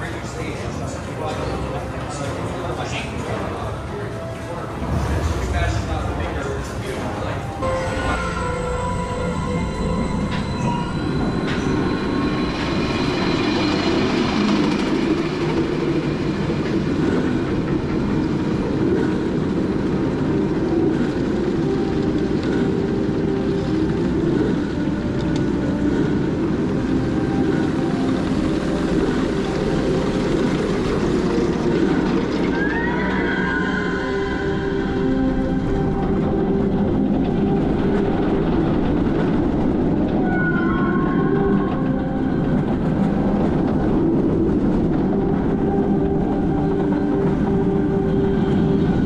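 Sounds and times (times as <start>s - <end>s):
roller coaster rolling on steel track: 0.0s - 49.0s.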